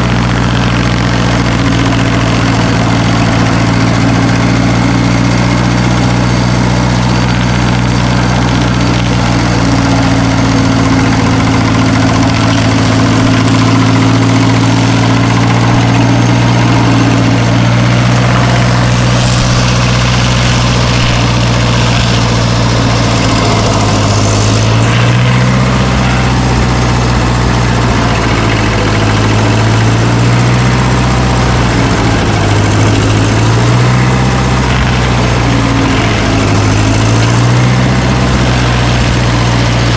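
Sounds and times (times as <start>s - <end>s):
earthmoving machine engine running: 0.0s - 39.9s.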